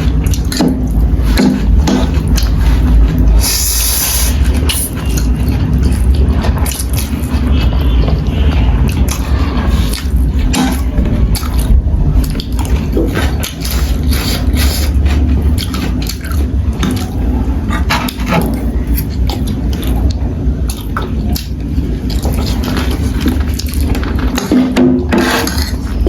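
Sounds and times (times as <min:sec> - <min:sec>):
slurping: 0:00.0 - 0:26.0
steady low hum: 0:00.0 - 0:26.0
wet chewing: 0:00.0 - 0:26.0.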